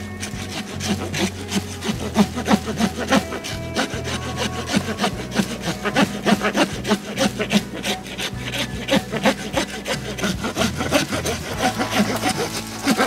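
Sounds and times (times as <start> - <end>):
saw cutting through tree trunk: 0.0 - 13.0.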